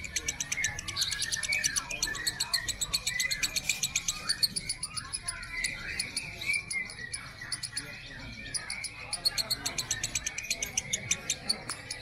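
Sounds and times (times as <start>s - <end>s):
bird chirps: 0.0s - 12.0s
lovebird chattering trill: 0.0s - 12.0s.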